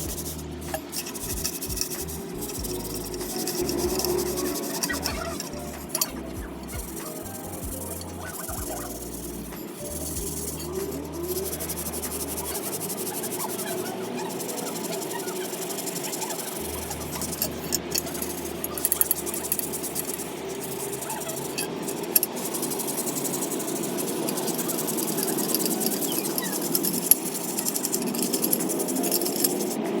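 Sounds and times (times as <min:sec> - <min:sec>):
metal muffler being polished: 0:00.0 - 0:30.0.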